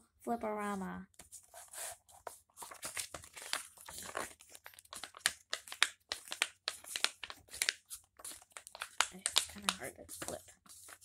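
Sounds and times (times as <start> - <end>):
paper pages flipping: 1.2 - 11.0.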